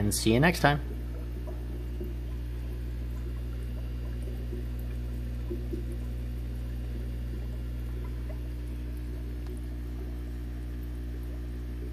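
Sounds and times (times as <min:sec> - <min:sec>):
aquarium filter bubbling: 0:00.0 - 0:11.9
steady low hum: 0:00.0 - 0:11.9.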